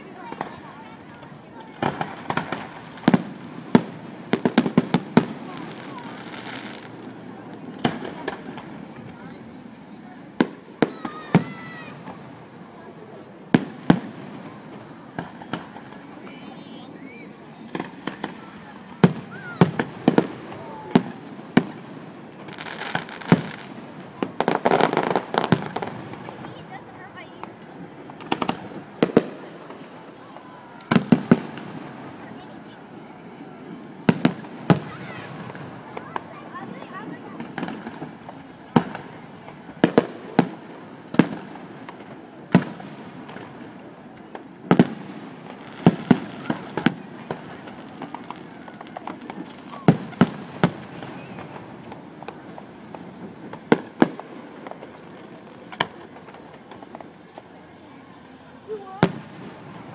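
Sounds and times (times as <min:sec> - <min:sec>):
firework bangs: 0:00.0 - 0:59.9
firework crackling: 0:00.0 - 0:59.9.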